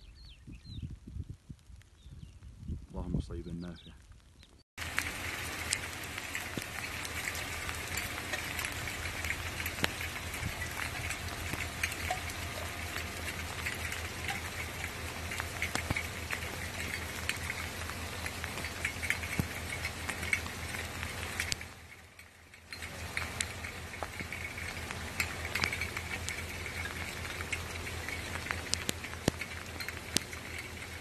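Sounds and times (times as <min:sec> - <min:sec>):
low steady hum: 0:04.8 - 0:31.0
rain falling: 0:04.8 - 0:31.0.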